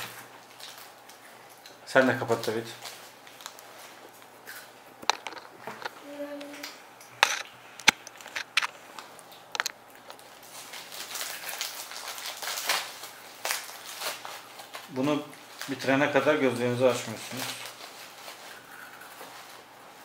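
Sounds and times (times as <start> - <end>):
plastic wrapper crinkling: 0.0 - 20.0.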